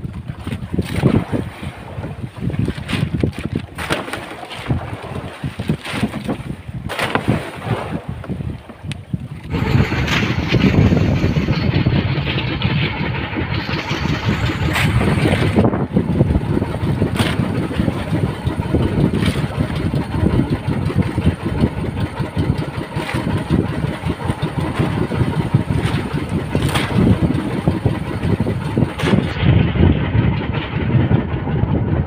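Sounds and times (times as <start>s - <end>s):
boat engine chugging: 0.0s - 32.0s.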